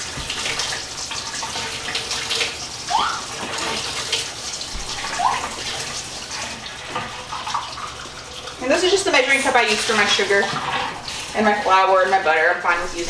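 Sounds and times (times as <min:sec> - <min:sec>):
kitchen faucet running: 0:00.0 - 0:13.0.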